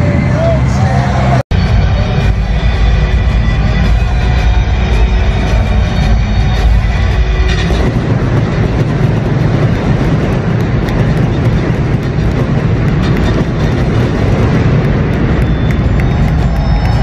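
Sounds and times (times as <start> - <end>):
pyrotechnics roaring: 0.0 - 17.0.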